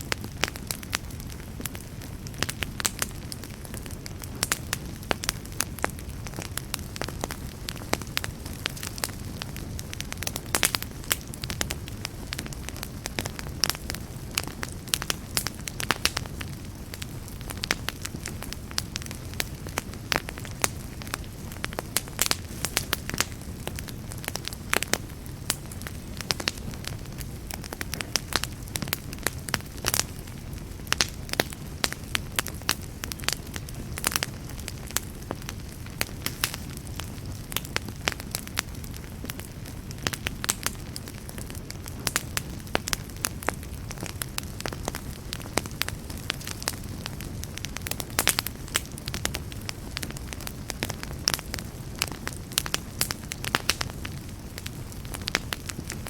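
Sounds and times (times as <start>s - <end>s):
burning wood crackling: 0.0s - 56.0s
campfire rumble and hiss: 0.0s - 56.0s.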